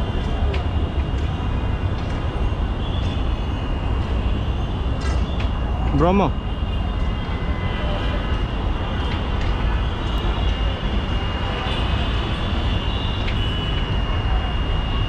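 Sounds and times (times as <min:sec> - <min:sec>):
city road traffic rumble: 0:00.0 - 0:15.0
high-pitched steady whine: 0:00.0 - 0:15.0.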